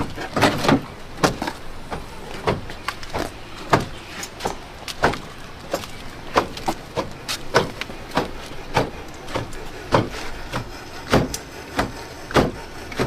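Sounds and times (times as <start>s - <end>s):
engine banging: 0.0s - 13.0s.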